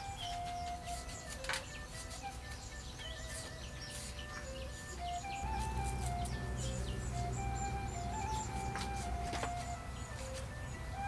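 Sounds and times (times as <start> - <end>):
simple melody of held notes: 0.0 - 11.0.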